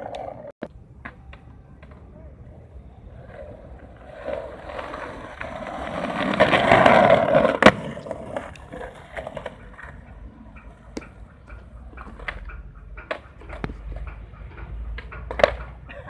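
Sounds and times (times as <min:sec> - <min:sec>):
skateboard clacking: 0:00.0 - 0:16.0
skateboard wheels rolling on asphalt: 0:00.0 - 0:16.0.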